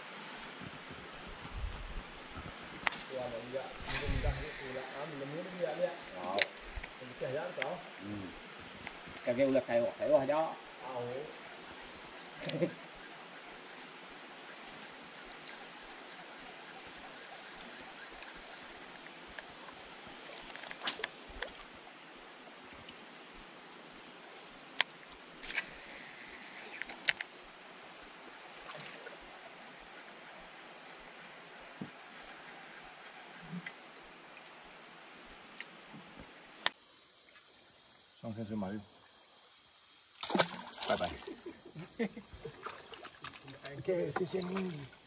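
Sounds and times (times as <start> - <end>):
high-pitched insect chorus: 0.0 - 45.0.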